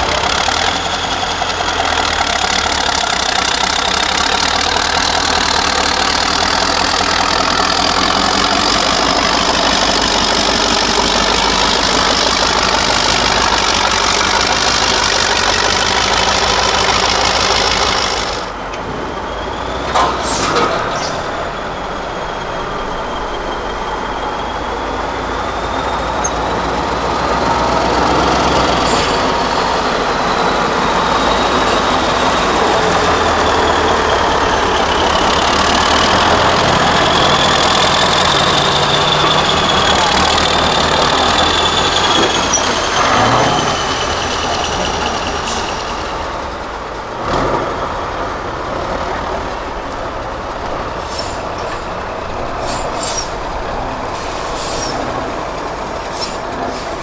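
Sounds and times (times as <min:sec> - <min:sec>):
diesel truck engine: 0:00.0 - 0:57.0.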